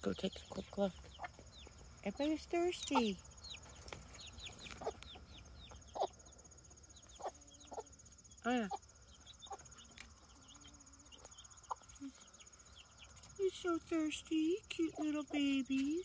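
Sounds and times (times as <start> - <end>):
chicks peeping: 0.0 - 16.0
insects trilling: 0.0 - 16.0
hen clucking: 0.1 - 16.0.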